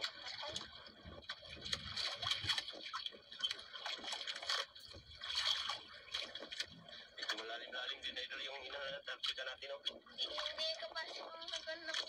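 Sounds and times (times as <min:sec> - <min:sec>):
small splashes and drips: 0:00.0 - 0:12.0
water lapping against boat hull: 0:00.0 - 0:12.0.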